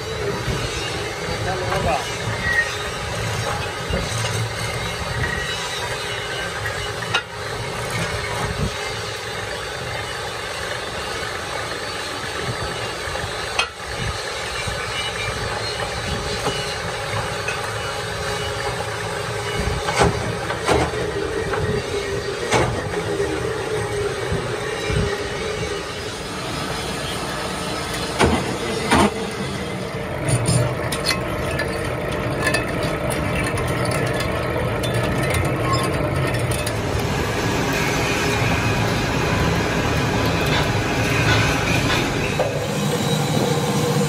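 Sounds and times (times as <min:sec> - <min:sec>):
lathe machining steel: 0:00.0 - 0:44.0.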